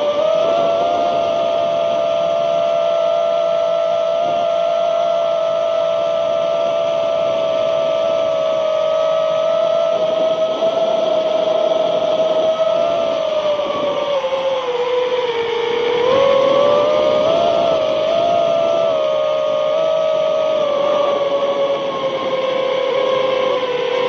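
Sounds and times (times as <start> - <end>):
drone motors whining: 0.0 - 24.0
wind rushing over microphone: 0.0 - 24.0.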